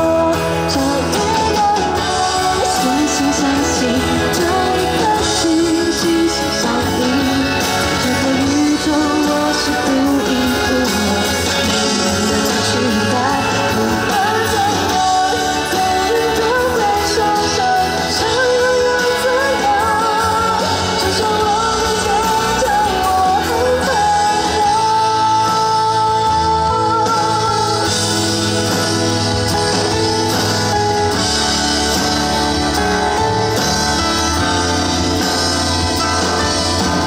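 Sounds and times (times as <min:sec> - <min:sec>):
person singing: 0:00.0 - 0:37.0
pop-rock band playing: 0:00.0 - 0:37.0.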